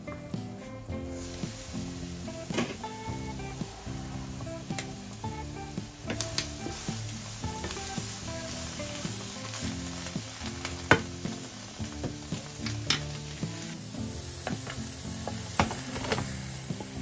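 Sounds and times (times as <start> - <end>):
eggs sizzling in frying pan: 0.0 - 17.0.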